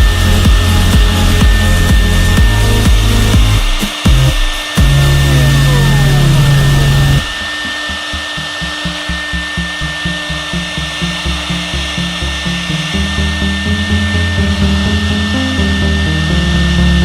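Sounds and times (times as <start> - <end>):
loud low hum: 0.0 - 17.0
low pulsing rhythm: 0.0 - 17.0
router spindle whine: 0.0 - 17.0.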